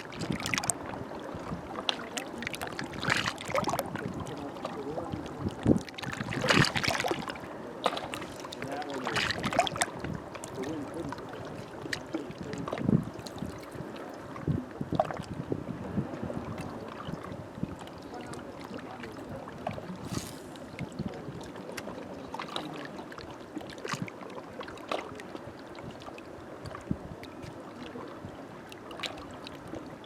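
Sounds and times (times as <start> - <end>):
small waves lapping shore: 0.0 - 30.0.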